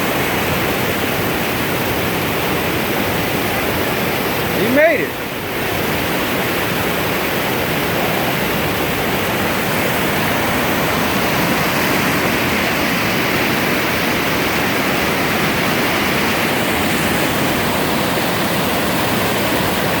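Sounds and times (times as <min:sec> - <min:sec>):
river whitewater roaring: 0:00.0 - 0:20.0.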